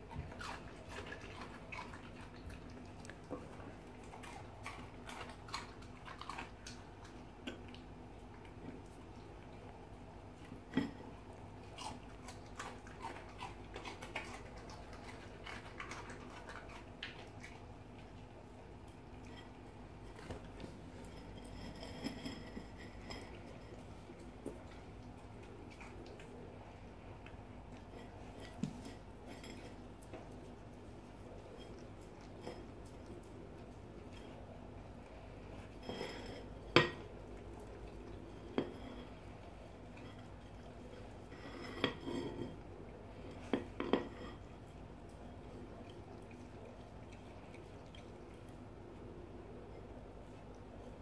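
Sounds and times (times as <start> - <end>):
dog licking and chewing: 0.0 - 36.0, 43.1 - 48.9.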